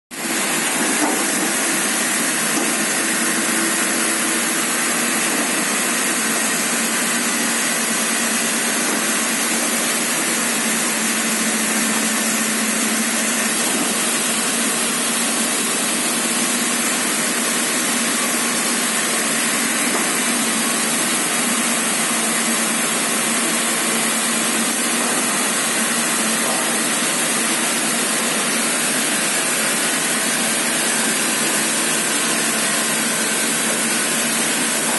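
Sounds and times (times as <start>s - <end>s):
saw cutting through wood: 0.1s - 34.9s.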